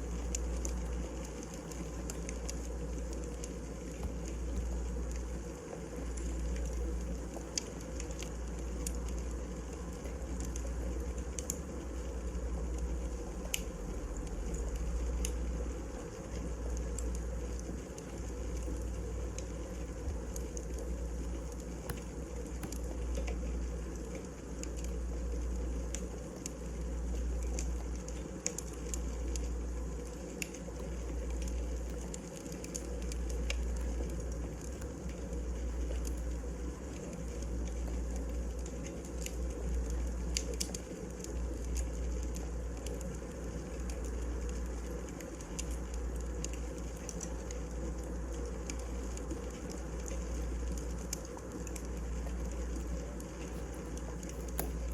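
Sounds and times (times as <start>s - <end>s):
firewood crackling and popping: 0.0s - 54.9s
low fire rumble: 0.0s - 54.9s.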